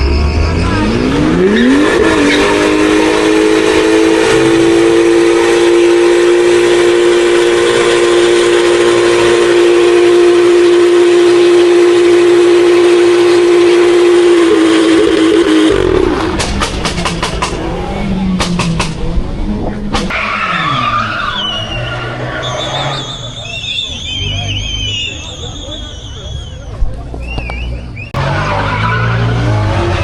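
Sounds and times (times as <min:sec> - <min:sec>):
spinning tyres hissing: 0:00.0 - 0:18.2, 0:18.9 - 0:26.8
car engine revving: 0:00.0 - 0:23.9, 0:27.4 - 0:30.0.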